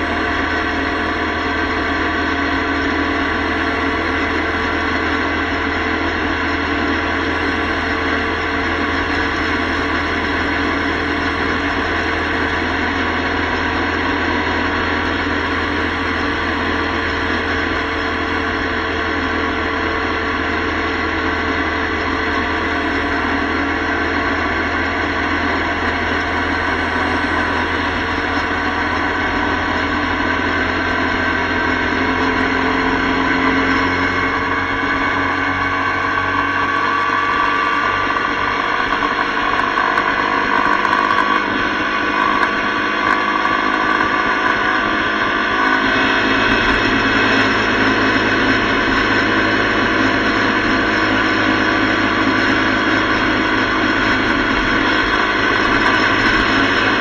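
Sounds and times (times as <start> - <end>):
motorcycle engine cruising: 0.0 - 57.0
road noise: 0.0 - 57.0.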